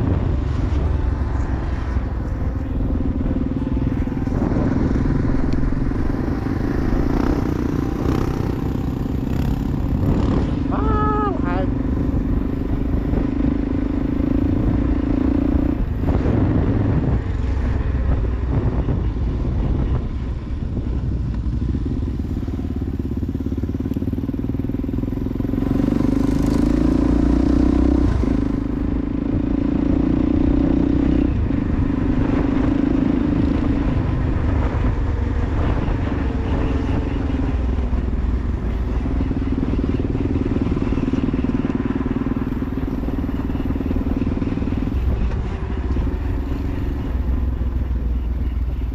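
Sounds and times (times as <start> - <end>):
motorcycle engine running: 0.0 - 48.9
road noise: 0.0 - 48.9
wind noise: 0.0 - 48.9.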